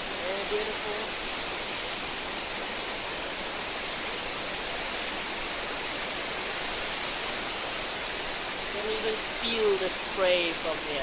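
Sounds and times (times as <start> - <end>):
distant waterfall rushing: 0.0 - 11.0.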